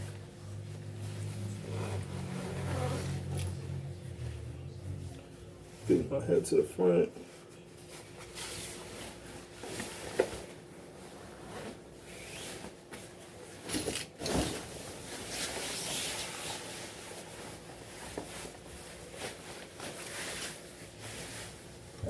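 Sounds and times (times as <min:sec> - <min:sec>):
jacket fabric rustling: 0:00.0 - 0:22.0.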